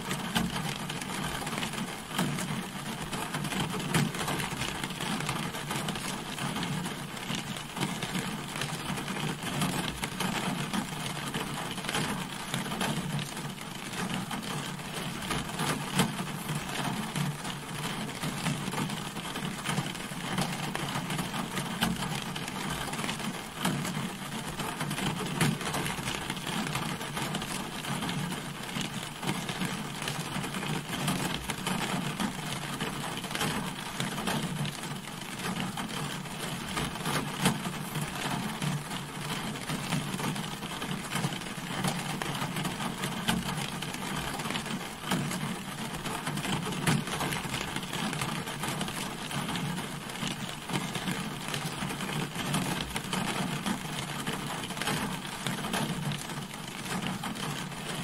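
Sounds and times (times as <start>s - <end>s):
rain falling on a car: 0.0s - 58.0s.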